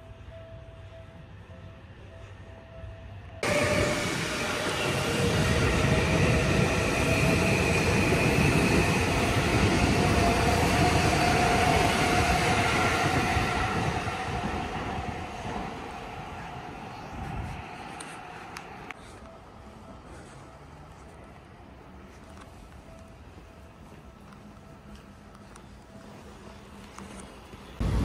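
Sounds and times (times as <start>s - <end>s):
electric train passing: 0.0s - 28.0s
high whine of train: 0.0s - 28.0s.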